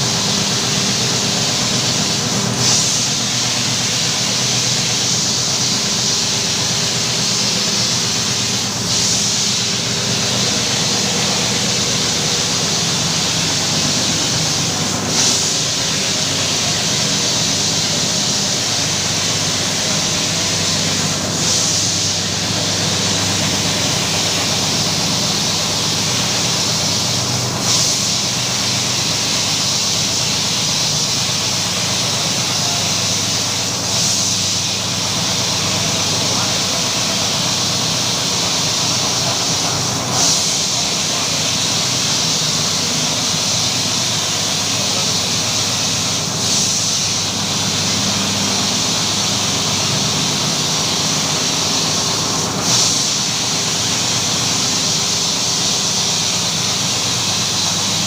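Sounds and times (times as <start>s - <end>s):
loud spraying hiss: 0.0s - 58.0s.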